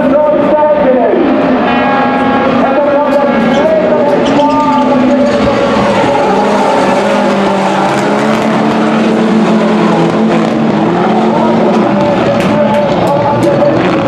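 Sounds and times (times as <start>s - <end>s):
racing car engines at high revs: 0.0s - 14.0s.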